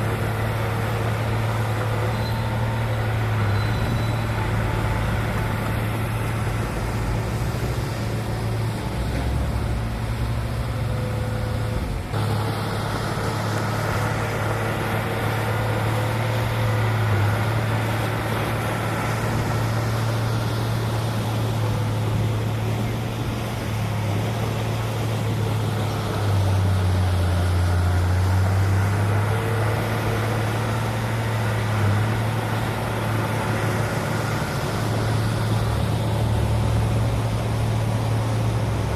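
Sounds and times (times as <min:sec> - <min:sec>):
diesel machinery engine running: 0:00.0 - 0:38.9.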